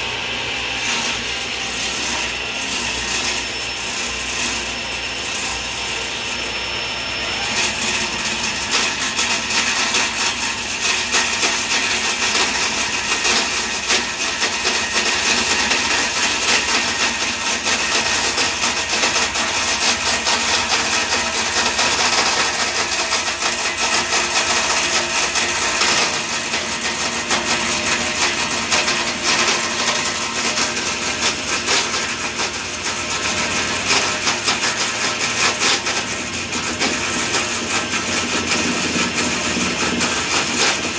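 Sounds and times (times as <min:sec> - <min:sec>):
cordless drill running: 0:00.0 - 0:40.9
table saw cutting wood: 0:00.0 - 0:40.9.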